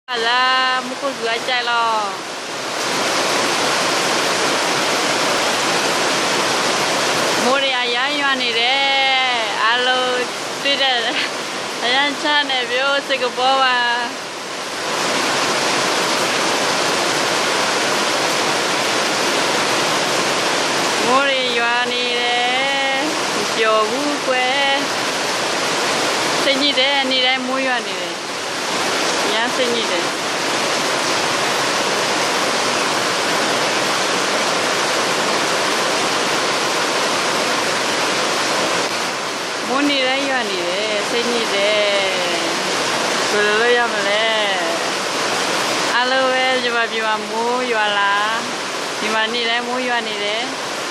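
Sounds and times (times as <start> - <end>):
heavy rain pouring: 0.1 - 50.9.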